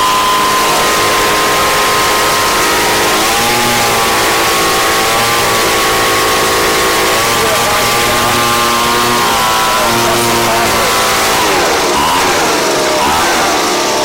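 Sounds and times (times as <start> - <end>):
leaf blower engine running: 0.0 - 14.0.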